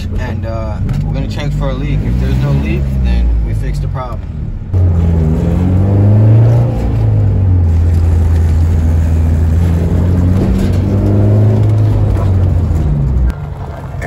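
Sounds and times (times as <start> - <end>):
car engine and exhaust running: 0.0 - 14.0.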